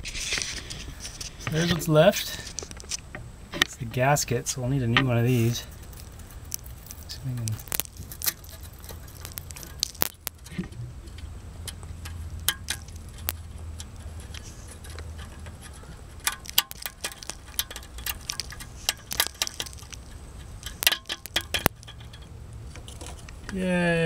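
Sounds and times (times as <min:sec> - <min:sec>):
metallic clicks and scrapes: 0:00.0 - 0:23.5.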